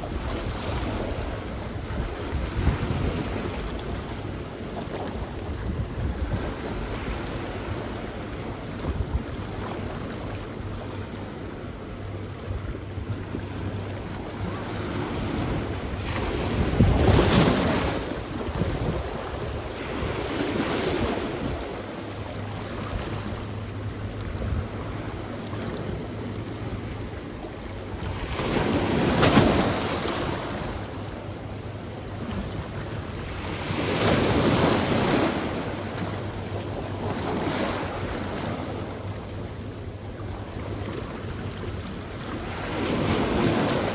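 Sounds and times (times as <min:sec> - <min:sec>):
sea waves washing onto shore: 0:00.0 - 0:43.9
wind buffeting microphone: 0:00.0 - 0:43.9.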